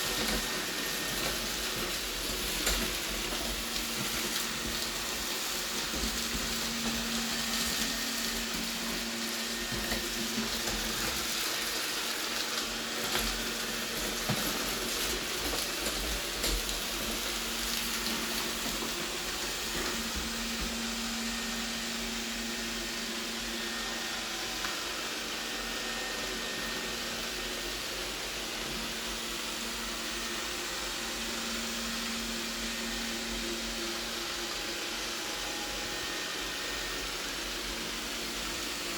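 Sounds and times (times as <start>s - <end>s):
robot vacuum motor whir: 0.0s - 38.9s.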